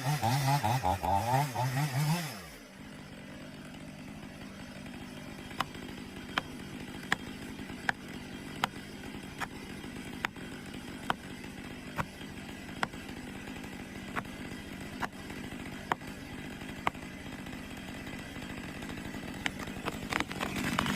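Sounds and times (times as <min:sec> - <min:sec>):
chainsaw engine running: 0:00.0 - 0:20.9.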